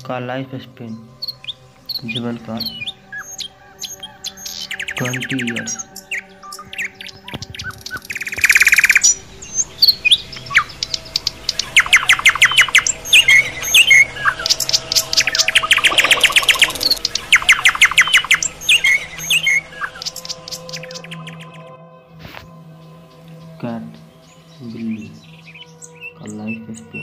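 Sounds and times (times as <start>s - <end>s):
birds chirping in trills: 0.0s - 27.0s.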